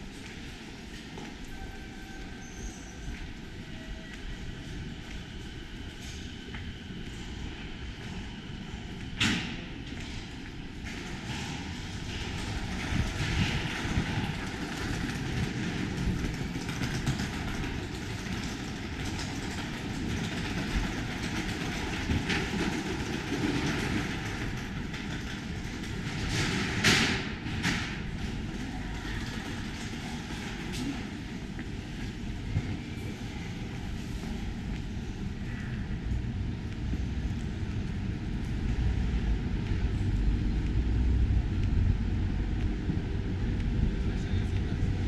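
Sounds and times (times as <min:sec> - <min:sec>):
train rumble on tracks: 0:00.0 - 0:45.0.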